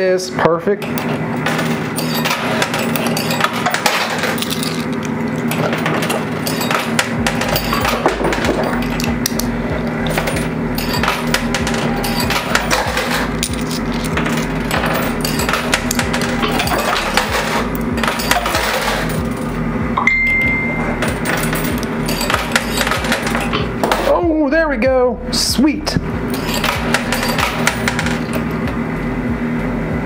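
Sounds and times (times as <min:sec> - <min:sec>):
coins clinking and dropping: 0:01.4 - 0:24.2, 0:26.3 - 0:28.6
background music with steady beat: 0:01.5 - 0:30.0.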